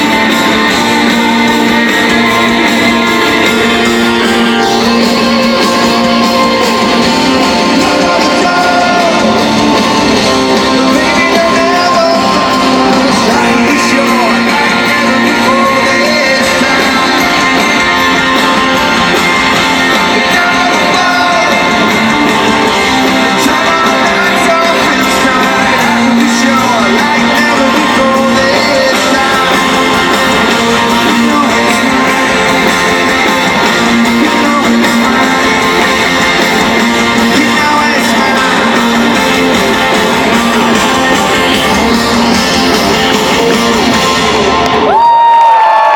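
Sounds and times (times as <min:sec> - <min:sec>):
person singing: 0:00.0 - 0:45.1
strummed electric guitars: 0:00.0 - 0:45.9.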